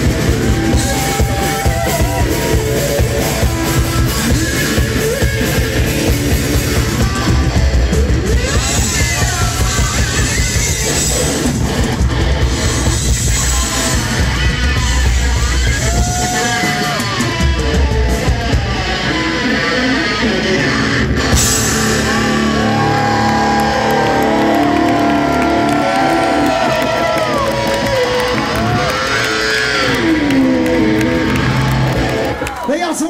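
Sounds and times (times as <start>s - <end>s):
drum kit: 0.0s - 32.4s
electric guitar: 0.0s - 32.7s.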